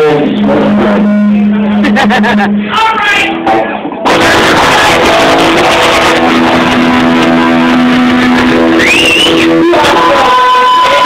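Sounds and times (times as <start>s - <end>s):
high feedback tone: 0.0s - 11.0s
punk rock band playing: 0.0s - 11.0s.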